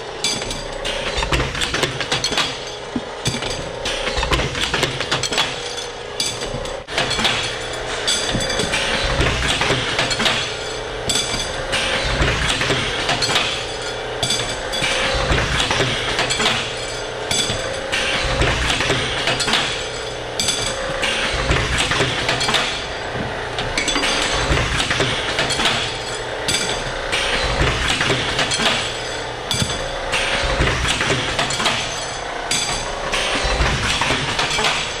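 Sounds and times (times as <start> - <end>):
tube cutter clanking: 0.0 - 35.0.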